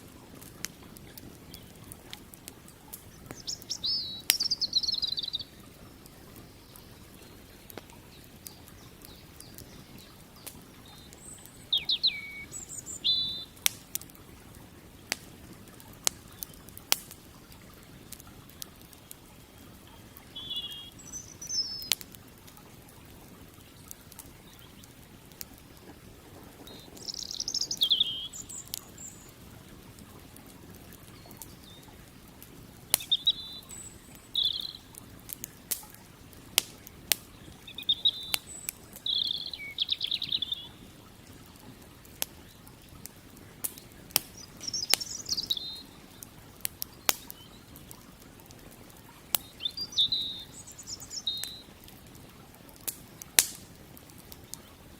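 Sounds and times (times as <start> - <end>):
birds chirping: 0.0 - 35.8, 36.6 - 48.0, 48.6 - 51.8
campfire crackling: 0.0 - 54.9
faint background hiss: 0.0 - 54.9
fire popping: 0.0 - 54.9.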